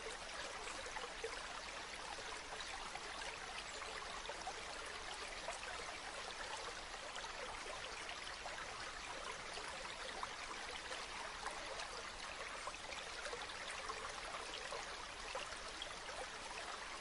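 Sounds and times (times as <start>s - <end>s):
rushing stream water: 0.0s - 17.0s.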